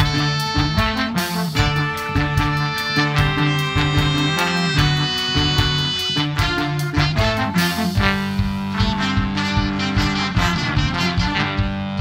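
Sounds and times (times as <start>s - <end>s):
brass band playing rock song: 0.0s - 12.0s.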